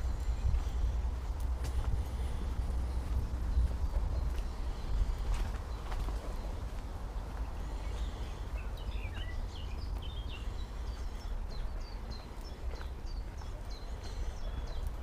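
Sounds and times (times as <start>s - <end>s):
low rumble on microphone: 0.0s - 15.0s
small birds chirping: 0.0s - 15.0s.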